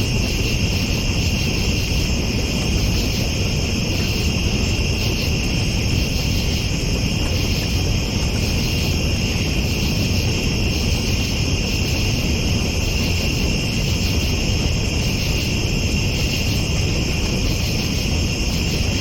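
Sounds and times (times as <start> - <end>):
constant low rumble: 0.0 - 19.0
night insects trilling: 0.0 - 19.0.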